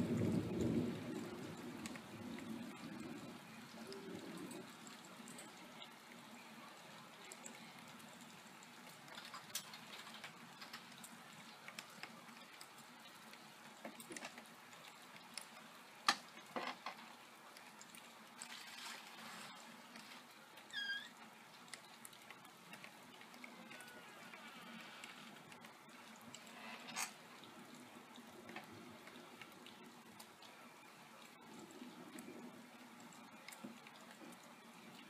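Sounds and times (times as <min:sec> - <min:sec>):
drips and ticks of drops: 0:00.0 - 0:35.0
steady faint rain: 0:00.0 - 0:35.0.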